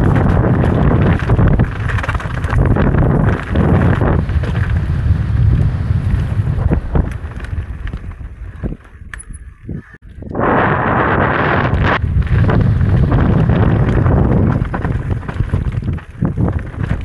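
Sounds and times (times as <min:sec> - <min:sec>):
bike knocking and rattling: 0:00.0 - 0:10.4, 0:11.4 - 0:17.0
tyres rumbling over rough trail: 0:00.0 - 0:17.0
wind buffeting microphone: 0:00.0 - 0:17.0.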